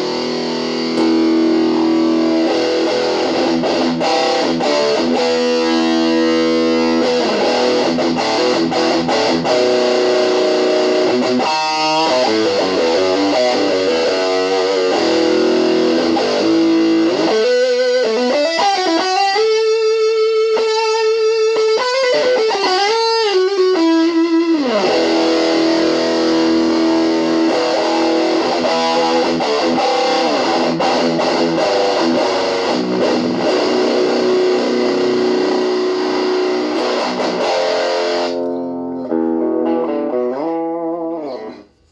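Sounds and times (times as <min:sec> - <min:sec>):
single-note guitar with bends: 0:00.0 - 0:41.8
distorted electric guitar chords: 0:00.0 - 0:41.9.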